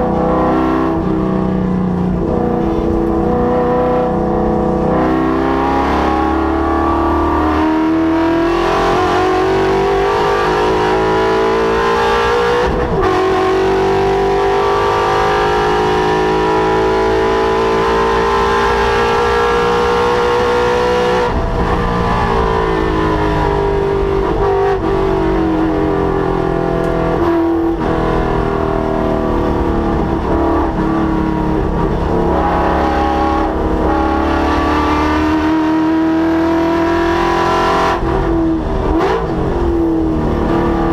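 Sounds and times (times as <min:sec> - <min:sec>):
car engine revving hard: 0:00.0 - 0:40.9.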